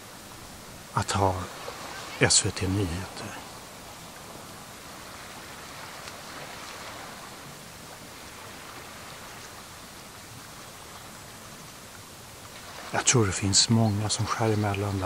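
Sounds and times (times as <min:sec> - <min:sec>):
rushing seashore ambience: 0:00.0 - 0:15.0.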